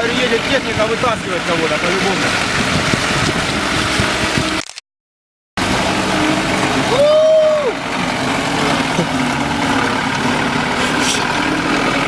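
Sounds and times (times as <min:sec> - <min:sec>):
vehicle engine running: 0:00.0 - 0:04.6, 0:05.6 - 0:12.0.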